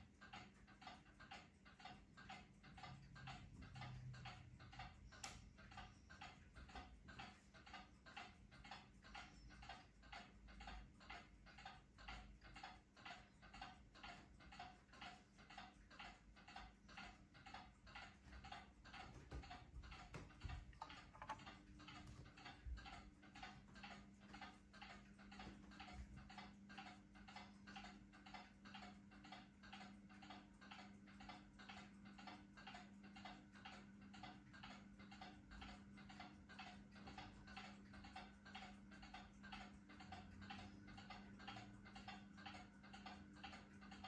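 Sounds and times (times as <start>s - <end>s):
ceiling fan motor hum: 0.0s - 44.0s
faint steady ticking: 0.0s - 44.0s.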